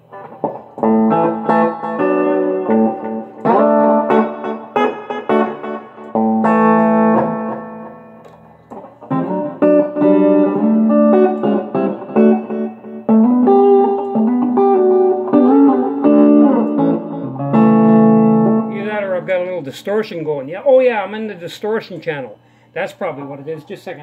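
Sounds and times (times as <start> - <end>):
distorted electric guitar: 0.0 - 19.5.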